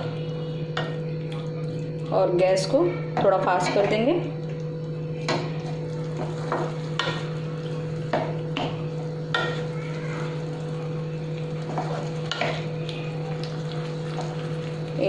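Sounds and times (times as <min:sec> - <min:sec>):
curry sizzling: 0:00.0 - 0:15.0
steady low hum: 0:00.0 - 0:15.0.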